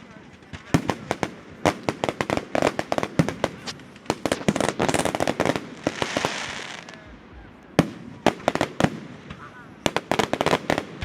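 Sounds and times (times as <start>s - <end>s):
fireworks bangs and pops: 0.0s - 11.0s
fireworks hissing crackle: 0.0s - 11.0s.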